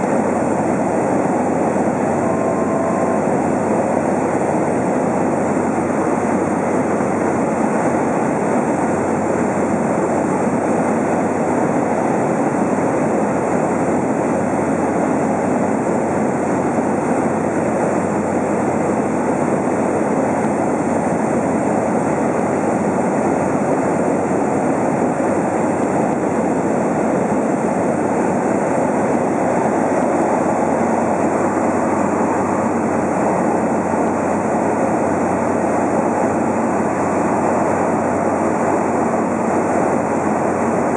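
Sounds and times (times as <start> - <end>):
aircraft engine and propeller: 0.0 - 40.9.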